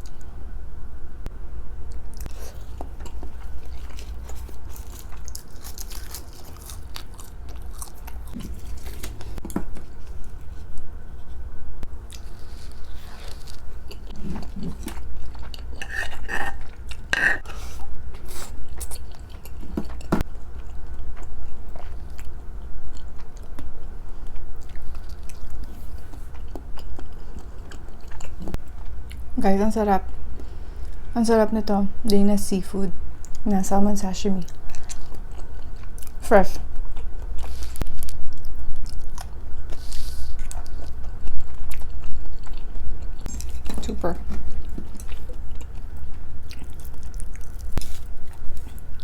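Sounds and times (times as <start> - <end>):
steady low hum: 0.0 - 49.0
person chewing food: 1.9 - 29.3, 34.4 - 49.0.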